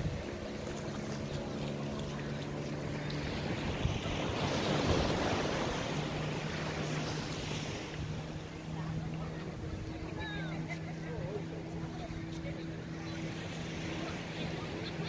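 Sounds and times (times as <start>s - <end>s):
boat engine drone: 0.0s - 15.0s
surf breaking on a beach: 0.0s - 15.0s
wind buffeting microphone: 0.0s - 15.0s.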